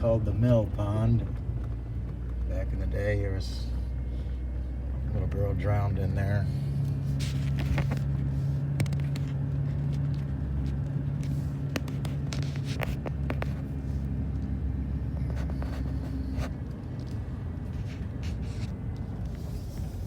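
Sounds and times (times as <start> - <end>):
car engine hum: 0.0 - 20.0
road noise: 0.0 - 20.0.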